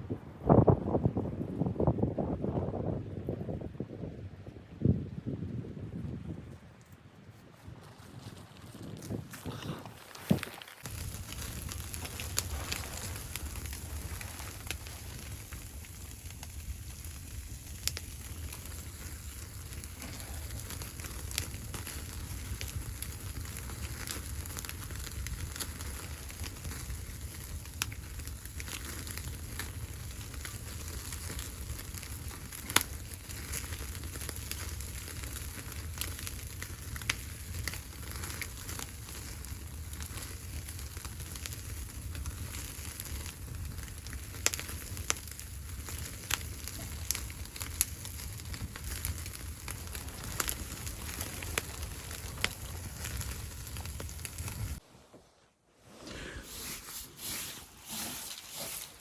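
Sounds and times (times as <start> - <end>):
wood fire crackling: 7.9 - 54.8, 56.1 - 59.0.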